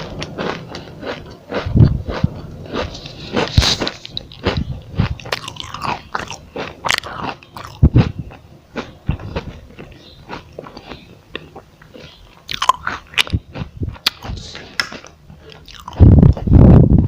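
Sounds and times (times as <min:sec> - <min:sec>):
person chewing crispy food: 0:00.0 - 0:16.5.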